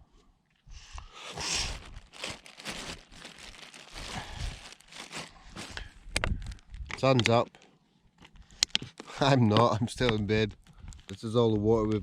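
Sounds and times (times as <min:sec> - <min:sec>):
rustling and crinkling: 0:01.3 - 0:12.0.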